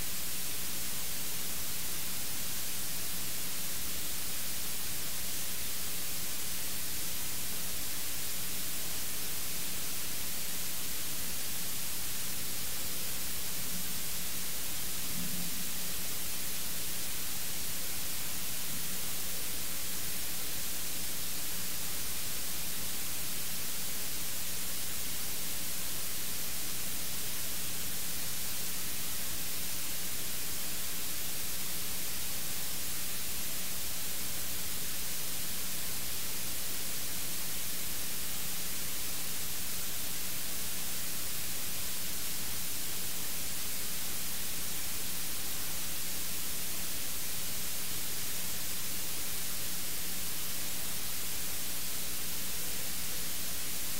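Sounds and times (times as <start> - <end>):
electronic static hiss: 0.0 - 53.9
faint steady hum: 0.0 - 53.9.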